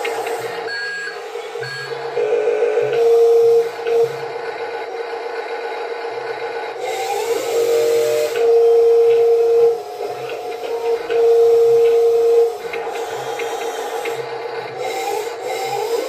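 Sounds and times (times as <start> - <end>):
electric gear motors whining: 0.0 - 16.0.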